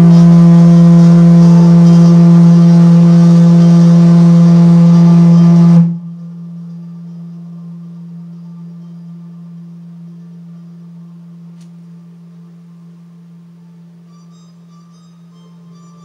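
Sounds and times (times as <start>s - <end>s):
low electronic drone: 0.0s - 16.0s.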